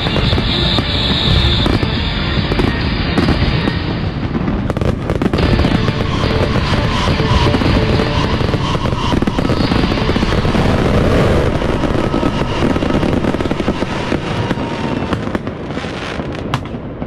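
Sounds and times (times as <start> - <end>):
fireworks bursts and bangs: 0.0 - 17.0.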